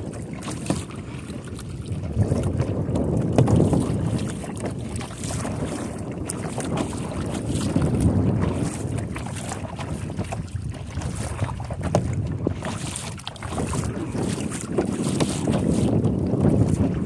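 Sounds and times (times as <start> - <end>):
paddle splashing in water: 0.0 - 17.0
wind rumble on microphone: 0.0 - 17.0.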